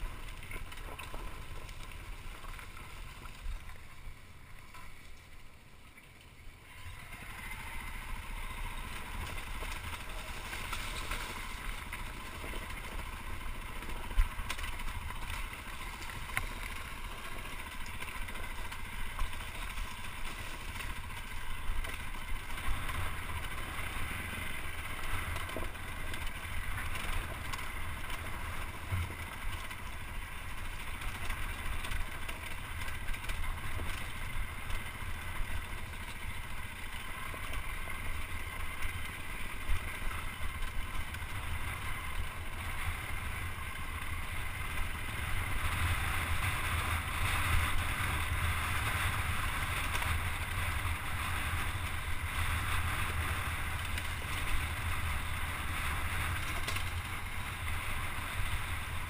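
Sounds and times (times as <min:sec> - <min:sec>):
dirt bike engine running: 0:00.0 - 0:05.7, 0:06.3 - 0:59.0
wind rumble on microphone: 0:06.7 - 0:59.0.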